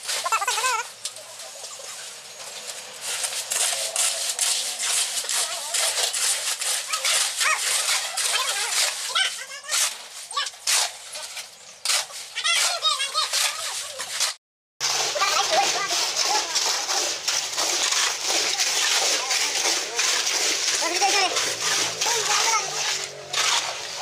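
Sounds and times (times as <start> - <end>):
shovels scraping gravel mix: 0.0 - 24.0.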